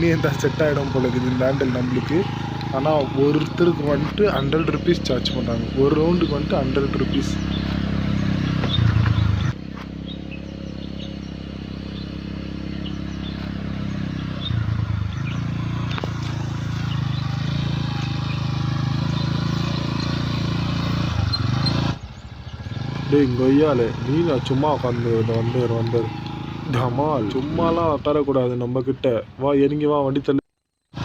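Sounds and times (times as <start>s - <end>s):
quad bike engine running: 0.0s - 30.2s.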